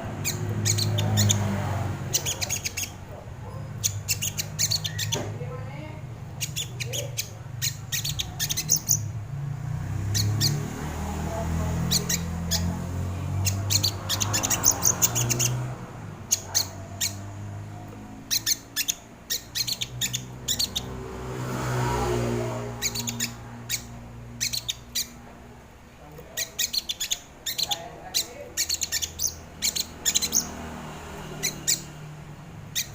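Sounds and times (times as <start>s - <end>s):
bird chipping calls: 0.0s - 5.5s, 6.2s - 9.2s, 9.9s - 10.9s, 11.6s - 21.0s, 22.6s - 25.4s, 26.1s - 30.8s, 31.4s - 32.9s.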